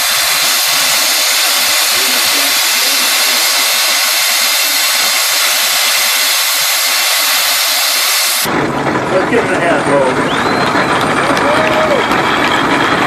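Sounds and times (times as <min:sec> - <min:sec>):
steam engine venting steam: 0:00.0 - 0:13.0.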